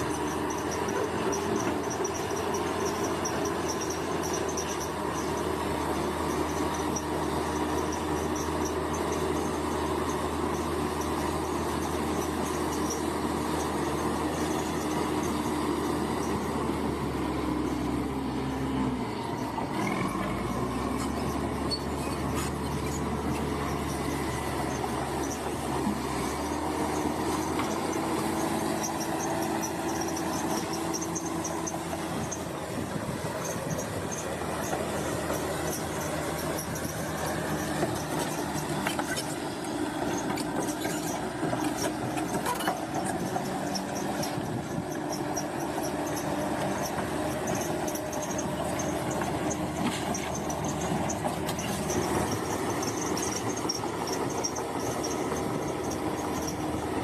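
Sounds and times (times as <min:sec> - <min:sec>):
diesel engine running: 0:00.0 - 0:57.0
steel tracks squealing: 0:00.0 - 0:57.0.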